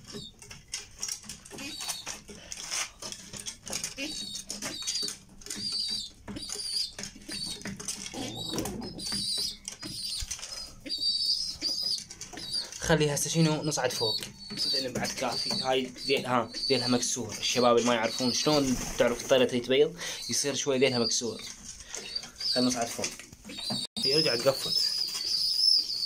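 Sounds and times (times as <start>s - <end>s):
wings flapping: 0.0s - 25.8s
pigeons pecking grain: 0.0s - 26.0s.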